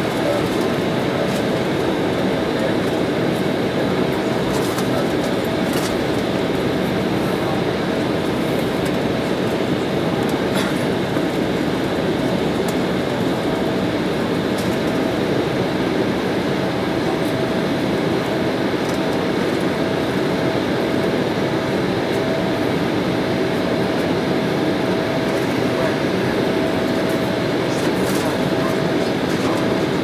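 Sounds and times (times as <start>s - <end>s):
jet engines droning: 0.0s - 30.0s.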